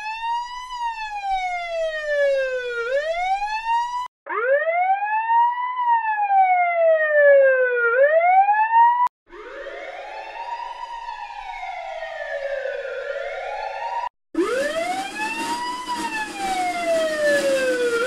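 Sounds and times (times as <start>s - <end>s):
police siren wailing: 0.0s - 18.0s.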